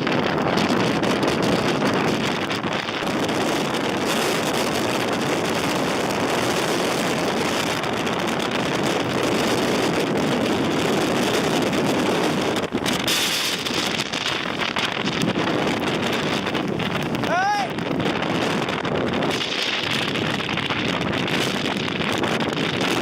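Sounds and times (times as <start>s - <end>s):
wind blowing across microphone: 0.0s - 23.0s.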